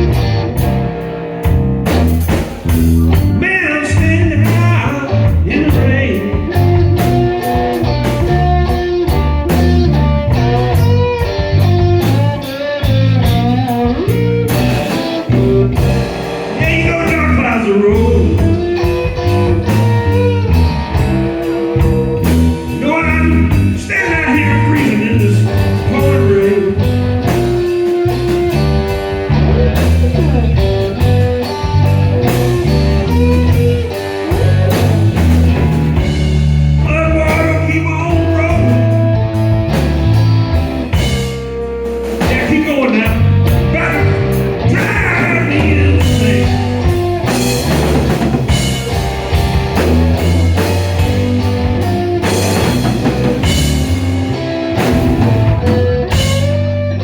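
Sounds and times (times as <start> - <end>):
drum kit: 0.0 - 57.0
electric bass: 0.0 - 57.0
electric guitar lead: 0.0 - 57.0.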